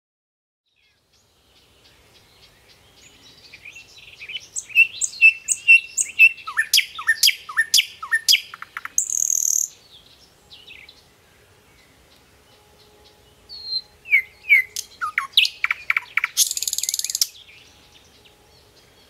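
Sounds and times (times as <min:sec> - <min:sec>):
songbird singing: 0:00.6 - 0:19.0.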